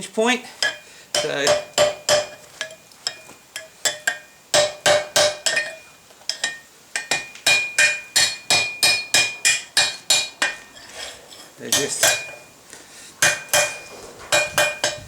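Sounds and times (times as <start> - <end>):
hammer striking steel on anvil: 0.6 - 10.8, 11.7 - 12.5, 13.2 - 15.0.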